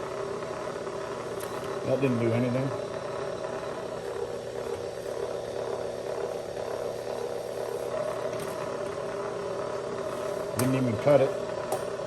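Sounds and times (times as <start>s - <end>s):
steady hum of held tones: 0.0s - 12.0s.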